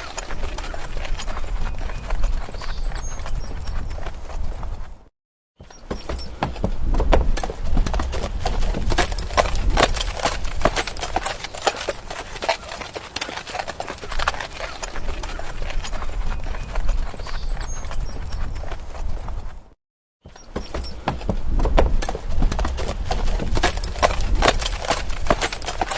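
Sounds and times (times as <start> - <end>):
horse hooves clip-clopping: 0.0 - 25.9.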